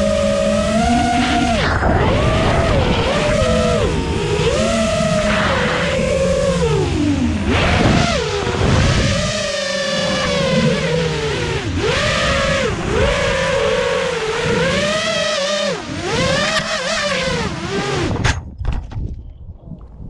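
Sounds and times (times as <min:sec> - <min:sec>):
drone motors whining: 0:00.0 - 0:18.3.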